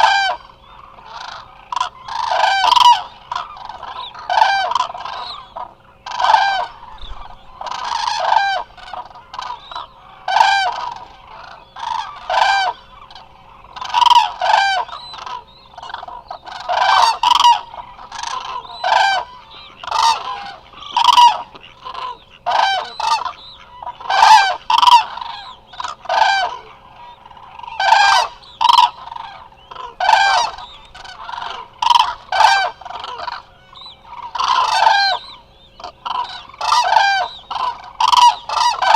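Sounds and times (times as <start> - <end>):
cranes trumpeting calls: 0.0 - 38.9.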